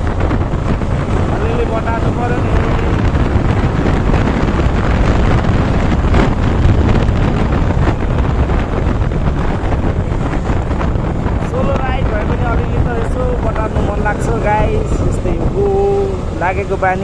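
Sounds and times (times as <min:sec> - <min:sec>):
motorcycle engine at speed: 0:00.0 - 0:17.0
wind buffeting microphone: 0:00.0 - 0:17.0.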